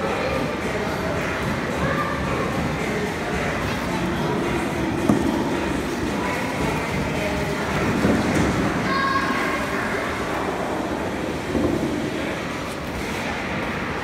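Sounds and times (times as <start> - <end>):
skaters' voices: 0.0 - 14.0.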